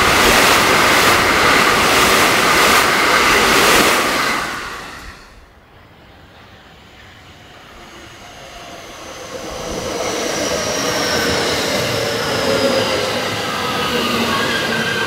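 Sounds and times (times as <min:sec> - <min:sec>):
train running along track: 0:00.0 - 0:15.0.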